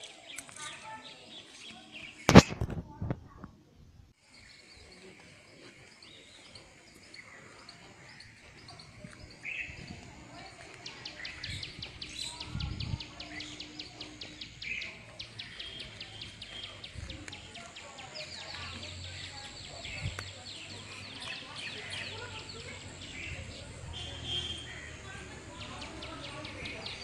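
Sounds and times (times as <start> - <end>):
birds calling: 4.3 - 27.0.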